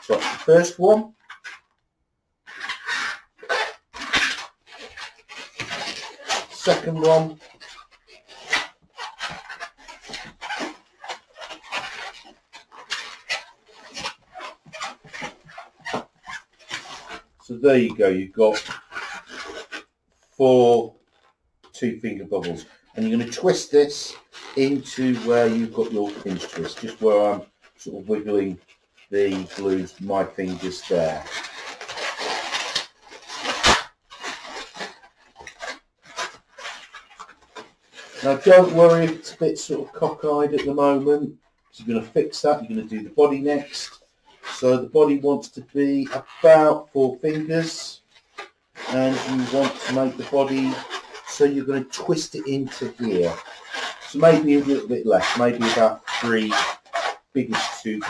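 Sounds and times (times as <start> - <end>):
balloon squeaking: 0.0 - 1.8, 2.4 - 58.0.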